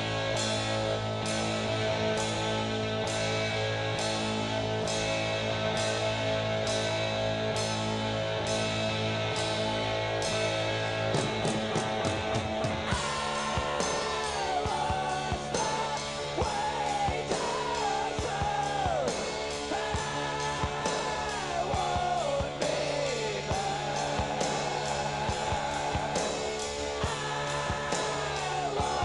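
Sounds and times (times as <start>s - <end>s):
low drone: 0.0s - 29.0s
rock music with sliding melody: 0.0s - 29.0s.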